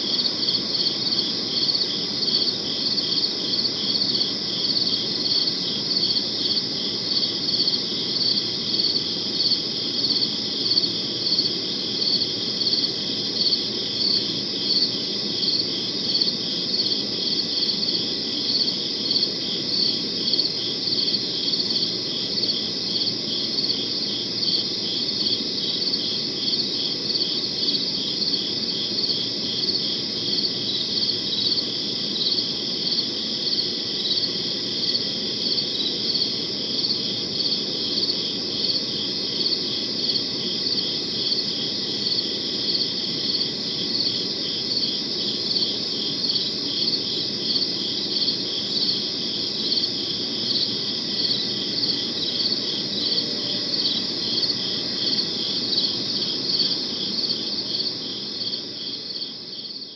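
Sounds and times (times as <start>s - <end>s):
crickets chirping: 0.0s - 59.9s
low background noise: 0.0s - 59.9s.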